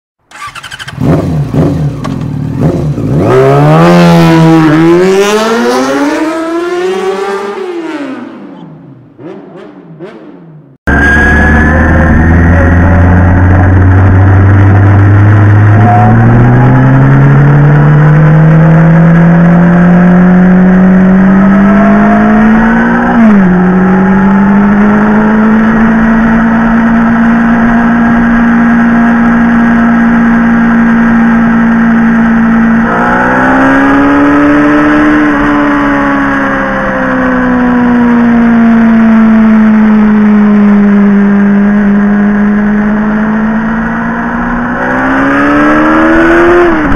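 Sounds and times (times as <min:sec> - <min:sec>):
motorcycle engine revving: 0:00.3 - 0:46.9.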